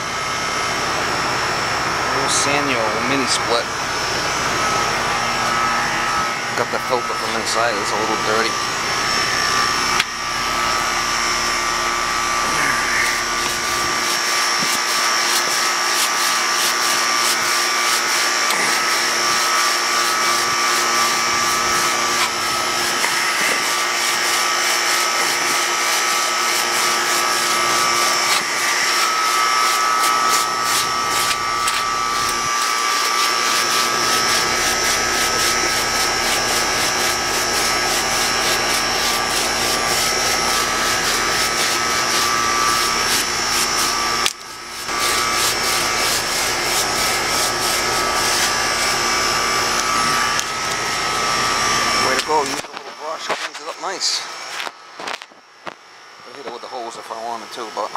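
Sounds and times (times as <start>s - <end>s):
air-cleaning tool motor whine: 0.0s - 57.9s.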